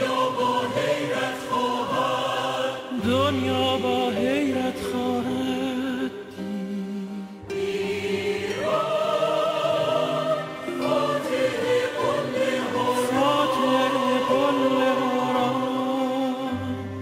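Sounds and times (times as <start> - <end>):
choir holding long notes: 0.0 - 4.7, 7.4 - 17.0.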